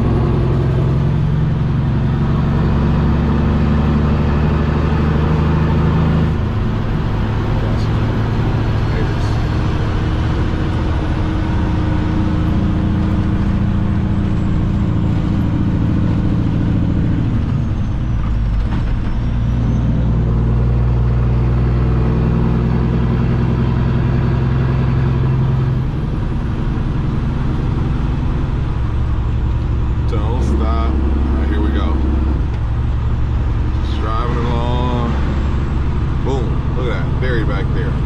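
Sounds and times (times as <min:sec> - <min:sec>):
truck diesel engine running: 0:00.0 - 0:38.0.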